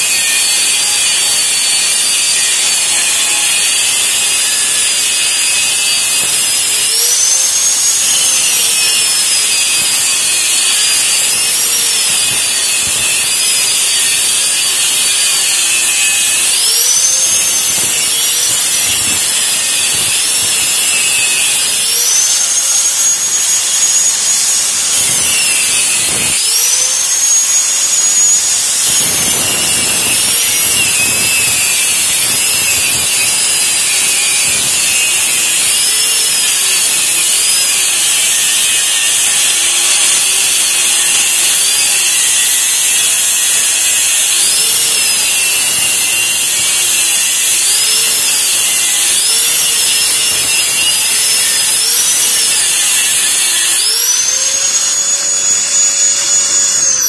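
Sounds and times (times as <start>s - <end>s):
angle grinder cutting metal: 0.0s - 57.0s.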